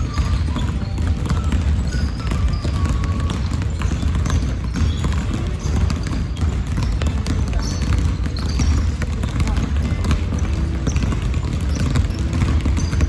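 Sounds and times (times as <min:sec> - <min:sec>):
basketball dribbling: 0:00.0 - 0:13.0.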